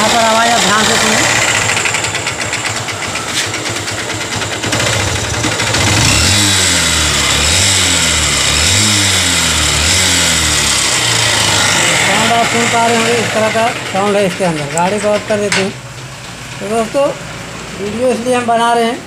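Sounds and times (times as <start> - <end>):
rapid engine ticking: 0.0 - 17.2
motorcycle engine idling and revving: 0.0 - 19.0.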